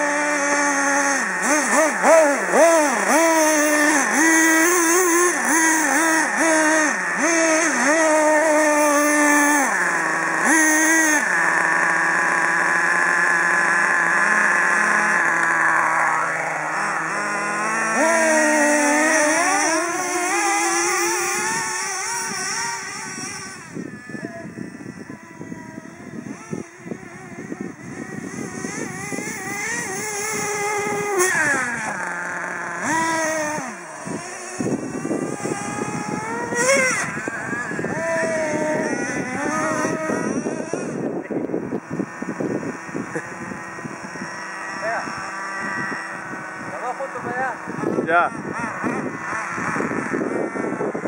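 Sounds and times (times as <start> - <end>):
small two-stroke engine revving: 0.0 - 51.0.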